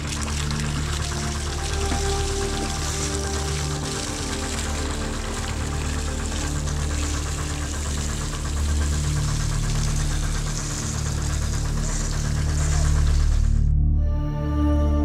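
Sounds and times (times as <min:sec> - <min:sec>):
water hissing: 0:00.0 - 0:13.6
boat engine running: 0:00.0 - 0:15.0
slow background music: 0:00.0 - 0:15.0.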